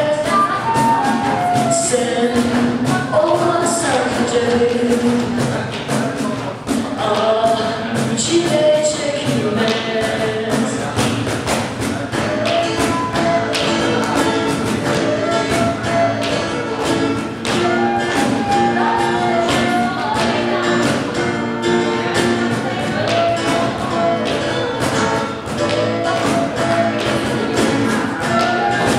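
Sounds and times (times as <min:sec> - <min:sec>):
group singing: 0:00.0 - 0:28.9
rhythmic instrumental accompaniment: 0:00.0 - 0:28.9.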